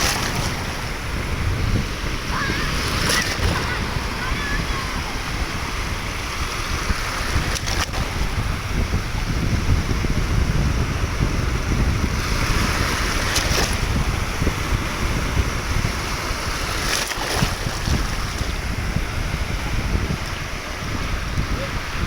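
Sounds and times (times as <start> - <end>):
rushing water: 0.0 - 22.0
wind buffeting microphone: 0.0 - 22.0.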